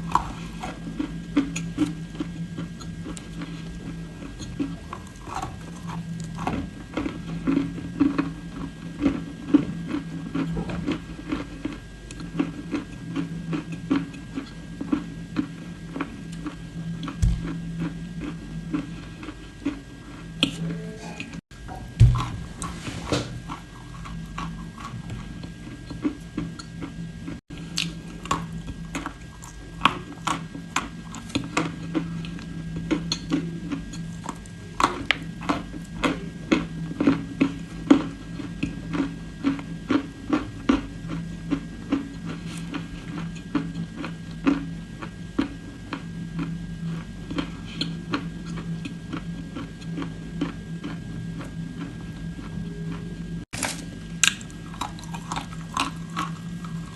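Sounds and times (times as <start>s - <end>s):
crunchy chewing close up: 0.0s - 21.4s, 22.2s - 56.9s
low steady hum: 0.0s - 56.9s.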